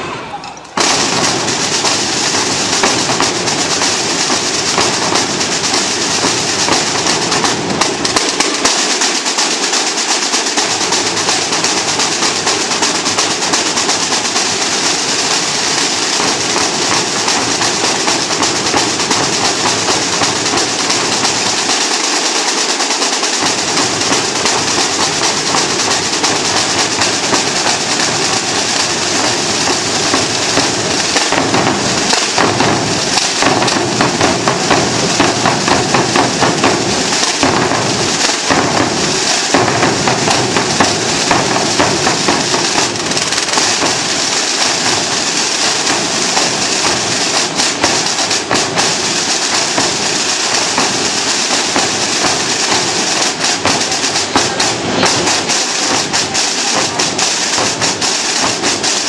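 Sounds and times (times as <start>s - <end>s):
snare drum rolls: 0.0s - 59.0s
bass drums: 0.8s - 8.7s, 10.8s - 21.7s, 23.4s - 59.0s.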